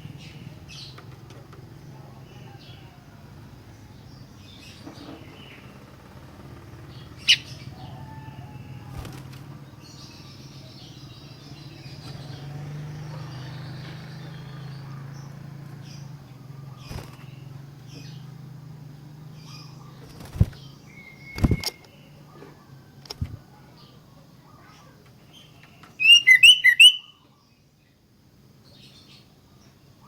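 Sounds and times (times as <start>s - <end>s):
bird chirping: 0.0s - 28.0s.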